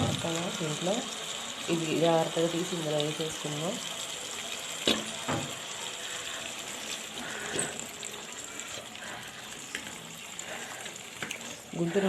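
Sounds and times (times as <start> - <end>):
wet sizzling hiss: 0.0 - 12.0.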